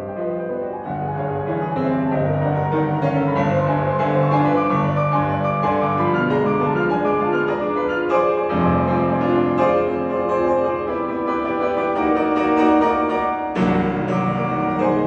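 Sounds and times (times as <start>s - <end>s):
solo grand piano: 0.0s - 15.0s.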